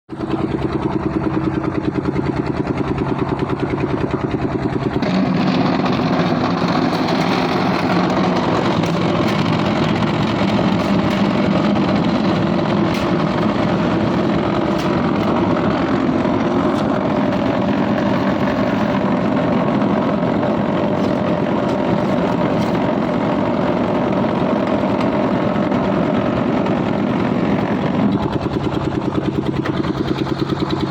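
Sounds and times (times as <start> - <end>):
engine running with pulsing beat: 0.1 - 30.9.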